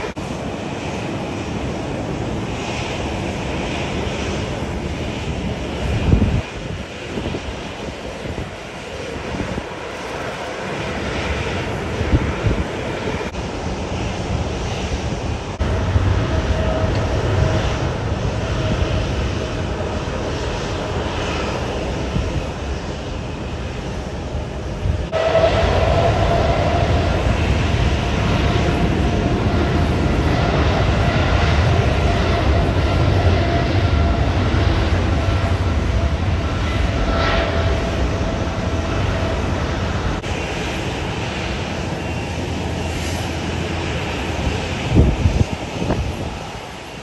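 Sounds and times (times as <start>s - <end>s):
jet engine whine: 0.0s - 47.0s
jet engines roaring: 0.0s - 47.0s.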